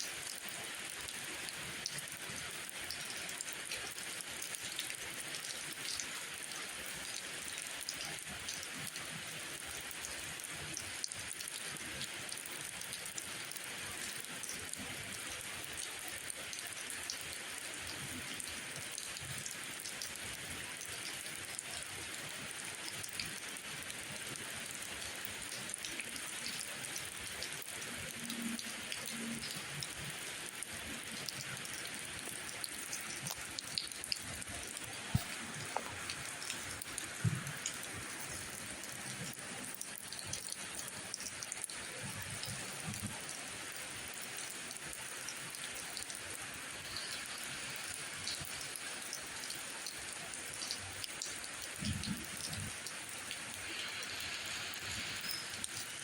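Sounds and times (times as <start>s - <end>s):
steady rain hiss: 0.0s - 56.0s
sharp raindrop ticks: 0.1s - 56.0s.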